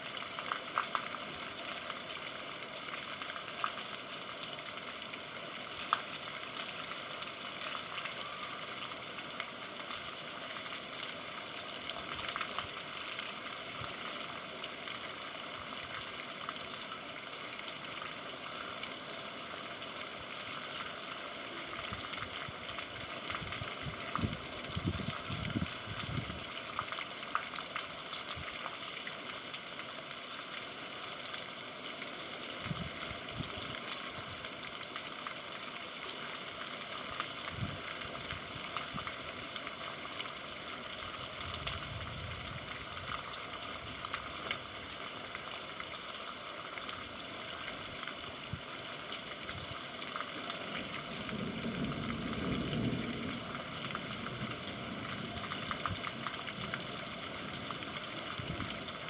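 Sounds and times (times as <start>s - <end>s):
steady rain falling: 0.0s - 59.0s
water gushing: 0.0s - 59.0s.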